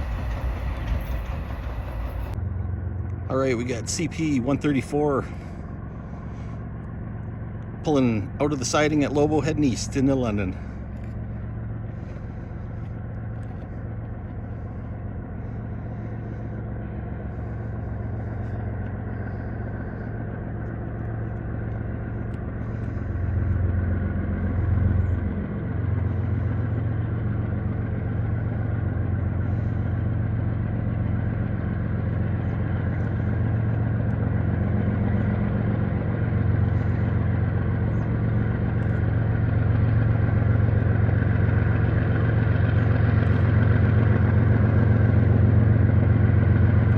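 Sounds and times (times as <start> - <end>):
diesel locomotive engine drone: 0.0 - 46.9.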